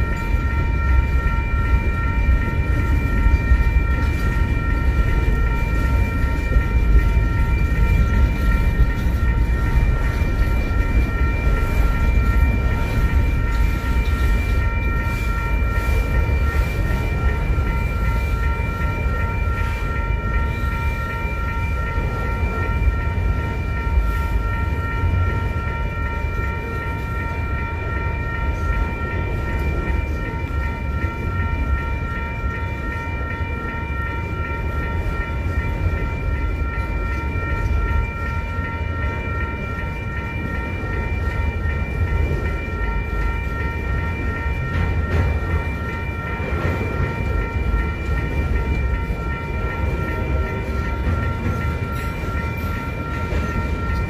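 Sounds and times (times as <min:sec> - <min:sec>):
crossing warning bell ringing: 0:00.0 - 0:54.0
train wheels rumbling on rails: 0:00.0 - 0:54.0.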